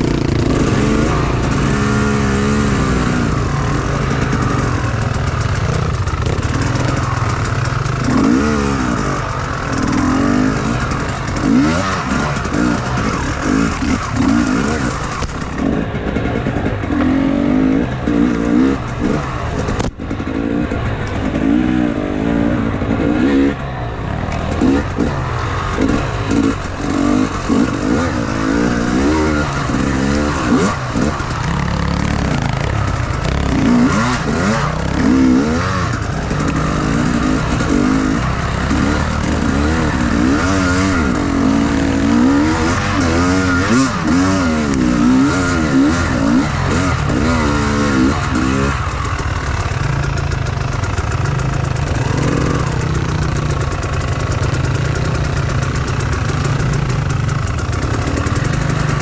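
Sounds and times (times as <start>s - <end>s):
motorcycle engine idling: 0.0s - 59.0s
motorcycle engine revving: 0.0s - 59.0s.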